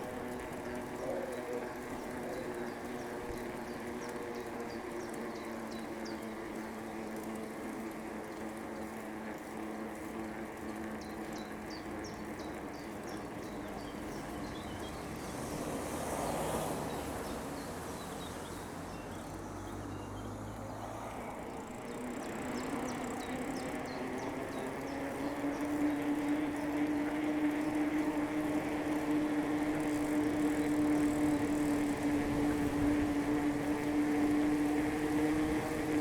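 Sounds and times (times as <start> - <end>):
bicycle tyre and drivetrain hum: 0.0 - 36.0.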